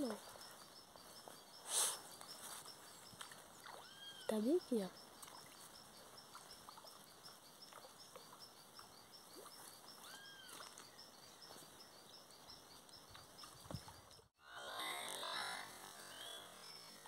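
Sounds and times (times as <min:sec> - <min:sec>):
soft repeating chirp: 0:00.0 - 0:14.3.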